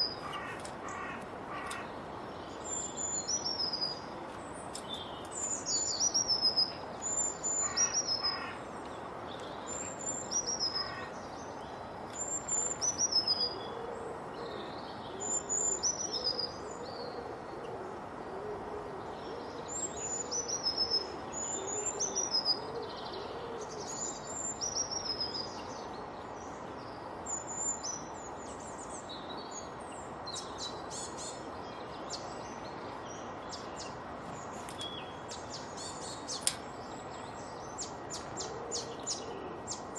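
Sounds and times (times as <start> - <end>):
low repeated bird calls: 0.0 - 39.9
steady background hiss: 0.0 - 39.9.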